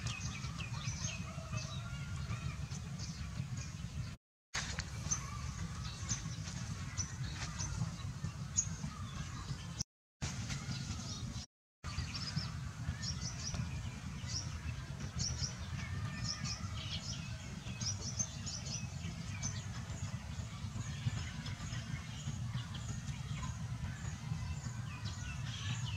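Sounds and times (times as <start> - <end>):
birds chirping: 0.0 - 9.8, 10.5 - 25.9
low outdoor rumble: 0.0 - 25.9.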